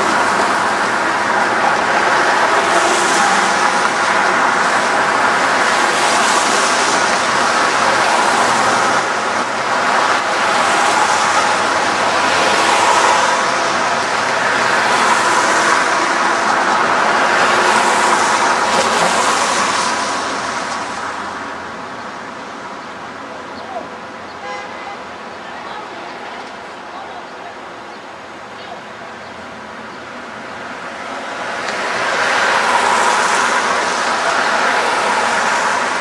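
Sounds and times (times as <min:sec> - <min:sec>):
road traffic rushing by: 0:00.0 - 0:36.0.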